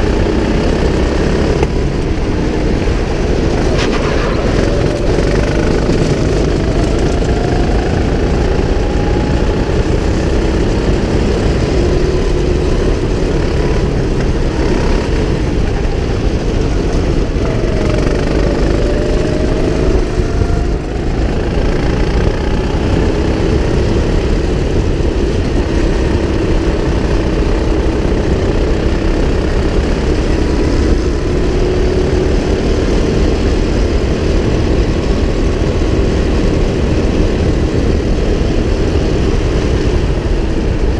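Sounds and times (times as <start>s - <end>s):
dense steady rumble: 0.0s - 40.9s
go-kart engine running hard: 0.0s - 40.9s.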